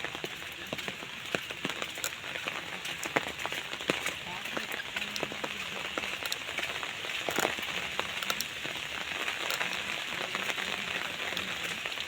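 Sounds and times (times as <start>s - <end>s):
raindrops ticking close by: 0.0s - 12.0s
steady rain falling: 0.0s - 12.0s.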